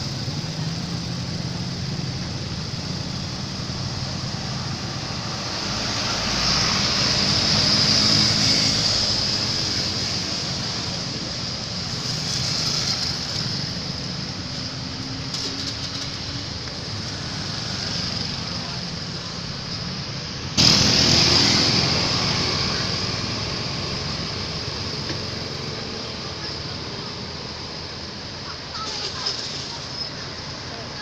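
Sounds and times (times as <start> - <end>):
vehicle passing close: 0.0 - 25.7
road traffic: 0.0 - 31.0.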